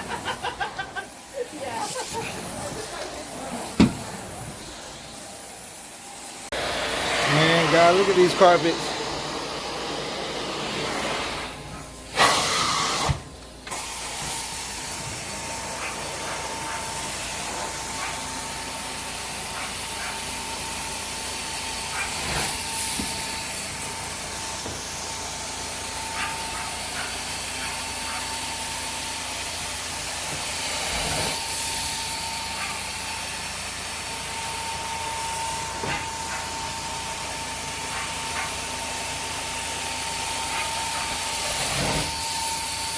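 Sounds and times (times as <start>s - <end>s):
carpet cleaner suction hiss: 0.0s - 42.9s.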